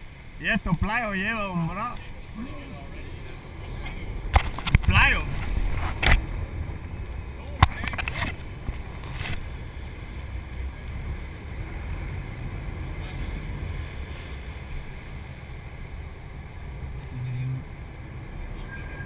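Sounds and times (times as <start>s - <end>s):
boat engine rumble: 0.0s - 19.0s.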